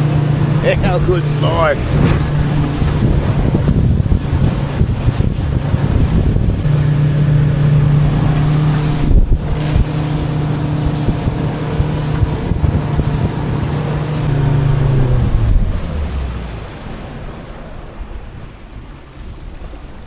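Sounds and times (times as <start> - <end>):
outboard motor droning: 0.0 - 20.0
wind rumble on microphone: 0.0 - 20.0.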